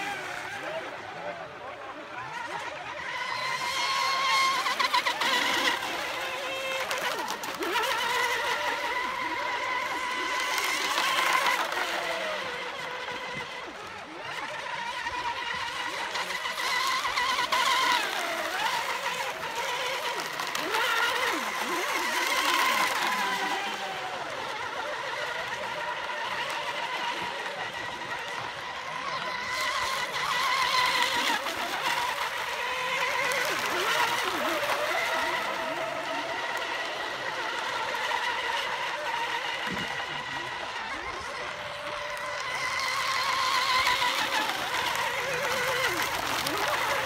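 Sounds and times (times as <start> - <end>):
model boat motors whining: 0.0 - 47.0.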